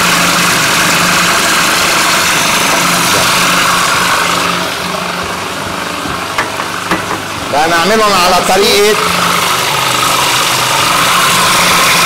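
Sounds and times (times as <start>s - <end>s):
food processor motor running: 0.0s - 12.0s.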